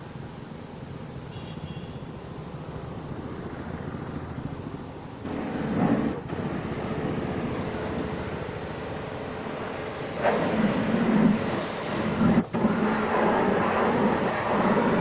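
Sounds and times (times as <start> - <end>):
faint steady hum: 0.0 - 15.0
hissy surge: 1.1 - 15.0.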